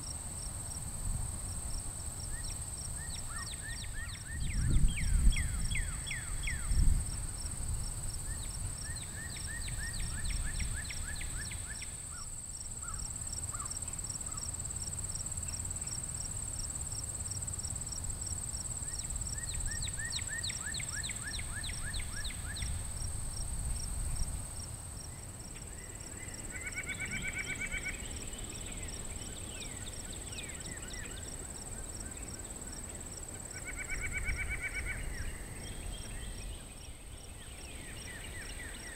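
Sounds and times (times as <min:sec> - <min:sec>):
cricket chirping: 0:00.0 - 0:38.9
insect drone: 0:00.0 - 0:38.9.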